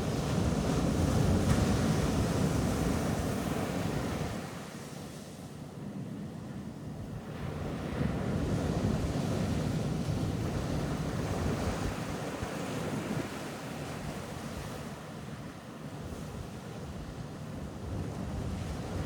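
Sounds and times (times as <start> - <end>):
ocean waves breaking on a beach: 0.0 - 19.0.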